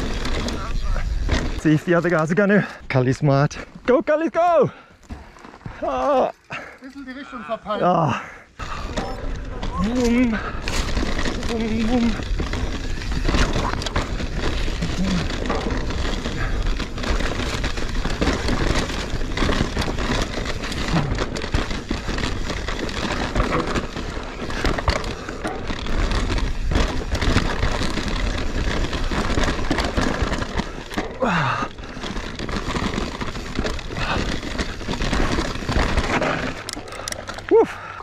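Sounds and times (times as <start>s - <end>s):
bike clattering and rattling: 0.0s - 7.2s, 7.8s - 38.0s
tyres crackling over dirt: 0.0s - 38.0s.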